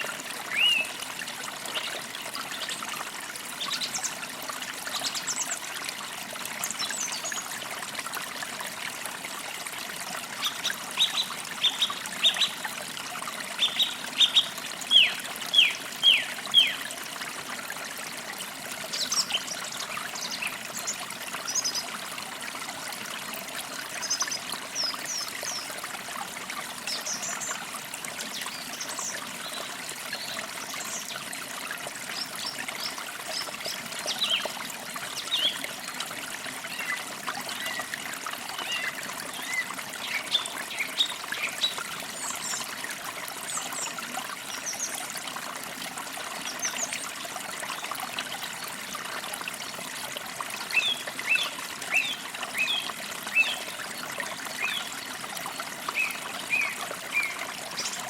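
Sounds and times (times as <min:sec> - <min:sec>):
creek trickling over stones: 0:00.0 - 0:58.0.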